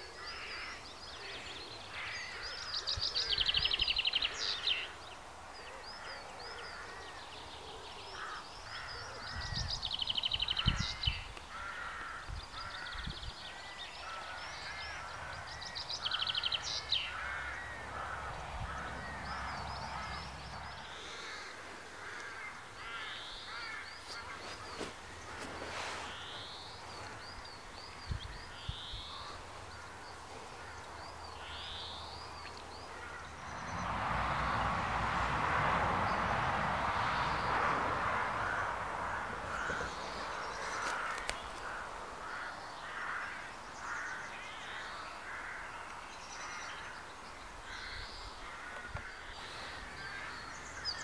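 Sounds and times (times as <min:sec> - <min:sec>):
wild birds chirping: 0:00.0 - 0:51.0
harsh bird calls: 0:05.7 - 0:51.0.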